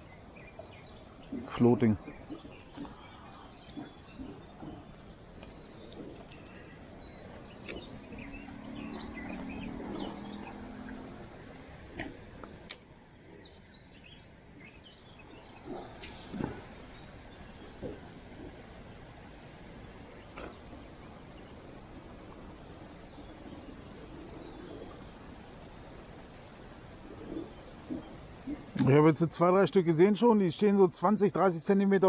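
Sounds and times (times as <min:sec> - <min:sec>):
faint low drone: 0:00.0 - 0:28.8
outdoor background hiss: 0:00.0 - 0:32.0
songbirds trilling: 0:00.0 - 0:32.0.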